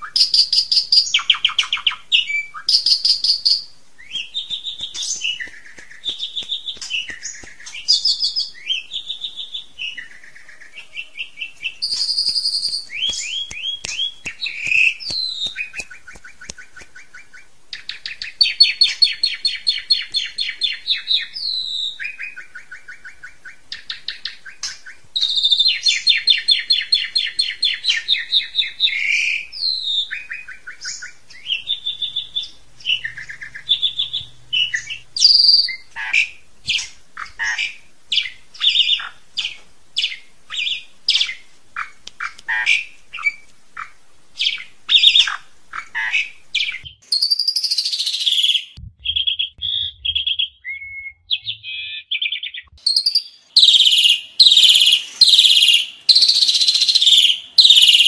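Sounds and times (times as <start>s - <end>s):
starling singing with whistles and trills: 0.0s - 58.0s.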